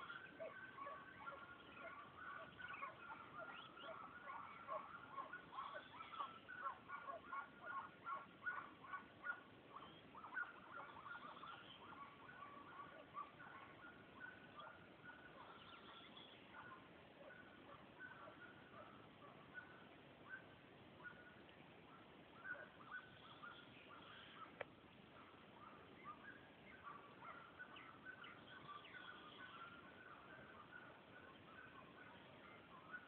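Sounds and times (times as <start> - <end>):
hounds baying: 0.0 - 33.0.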